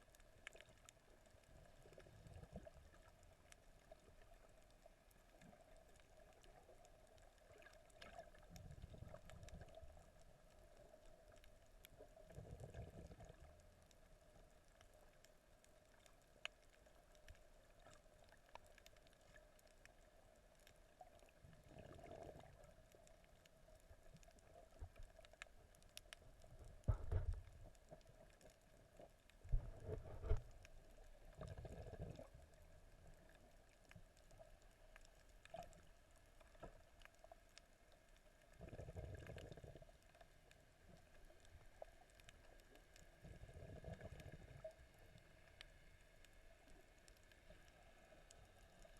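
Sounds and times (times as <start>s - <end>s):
underwater low hum: 0.0s - 48.9s.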